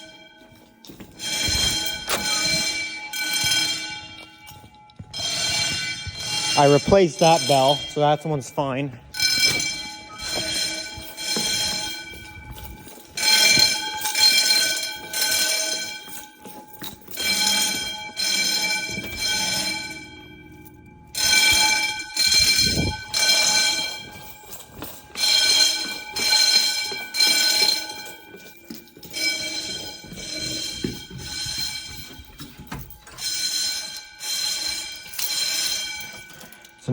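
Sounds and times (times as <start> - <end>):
fire alarm bells ringing: 0.0 - 36.9.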